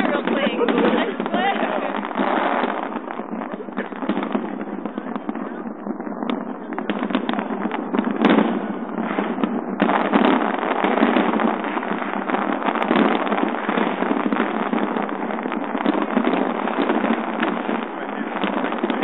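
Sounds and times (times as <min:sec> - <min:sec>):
fireworks booming and crackling: 0:00.0 - 0:19.0.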